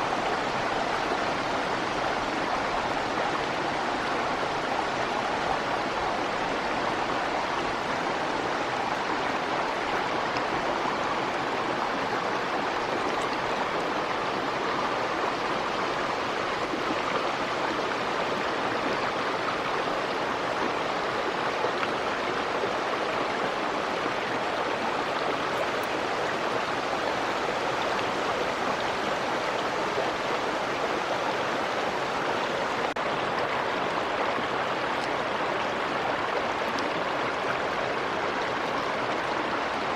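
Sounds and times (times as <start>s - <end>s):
small stream flowing: 0.0s - 39.9s.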